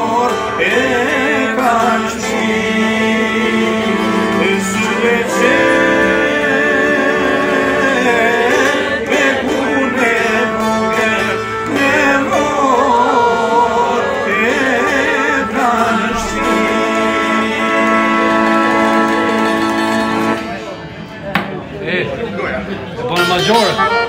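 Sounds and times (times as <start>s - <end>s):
men singing folk song: 0.0s - 20.4s
plucked lutes: 0.0s - 21.7s.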